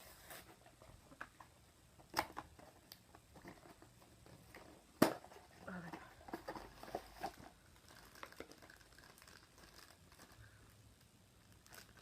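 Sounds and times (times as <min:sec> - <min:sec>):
toy packaging clicks and crinkles: 0:02.1 - 0:12.0.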